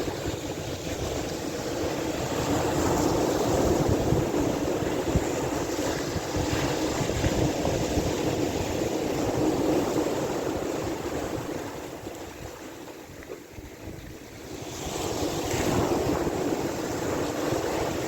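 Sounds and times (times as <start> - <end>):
sea waves: 0.0 - 18.0
wind rumbling on microphone: 0.0 - 18.0.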